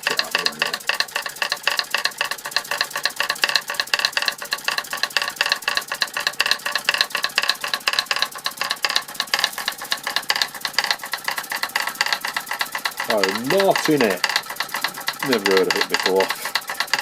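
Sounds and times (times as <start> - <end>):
toy steam hammers clattering: 0.0 - 17.0.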